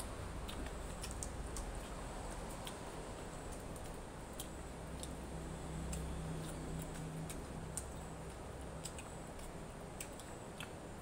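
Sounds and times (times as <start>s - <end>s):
low steady hum: 0.0s - 11.0s
chewing smacking and clicking: 0.4s - 5.2s, 5.8s - 11.0s.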